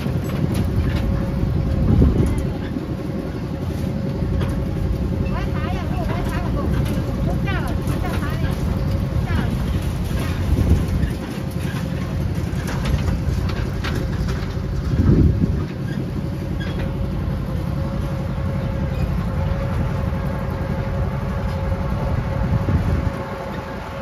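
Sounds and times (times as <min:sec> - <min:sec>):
miniature train rumbling: 0:00.0 - 0:24.0
train whine: 0:00.0 - 0:24.0.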